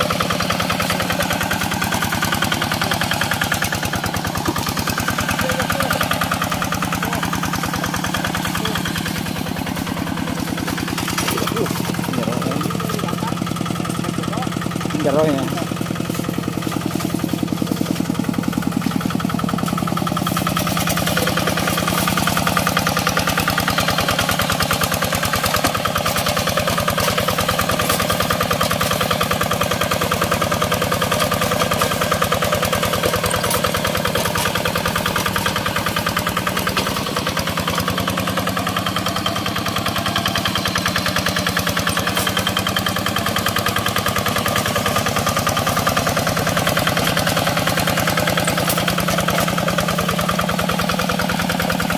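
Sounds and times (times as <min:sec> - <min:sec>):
hand tractor engine running: 0:00.0 - 0:51.9.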